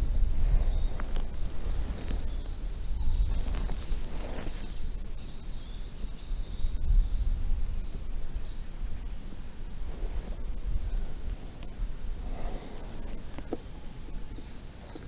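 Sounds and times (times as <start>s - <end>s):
faint bird chirps: 0.0s - 15.0s
wind buffeting microphone: 0.0s - 15.0s.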